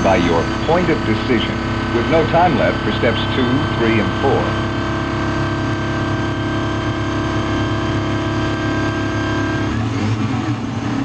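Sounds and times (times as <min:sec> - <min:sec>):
vehicle engine droning: 0:00.0 - 0:09.5.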